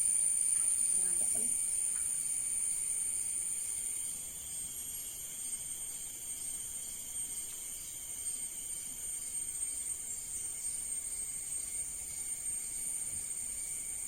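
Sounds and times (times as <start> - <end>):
high-pitched insect buzzing: 0.0 - 14.0.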